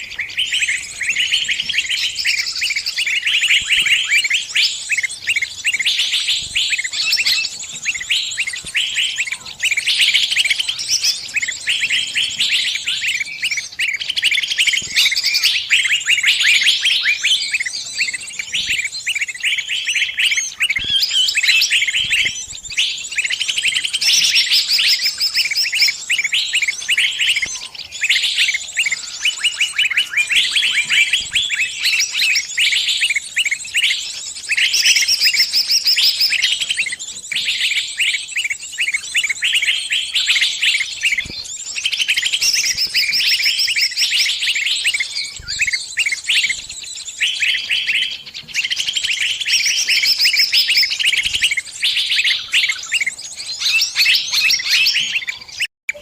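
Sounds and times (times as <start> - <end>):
small bird distress chirps: 0.0 - 56.0.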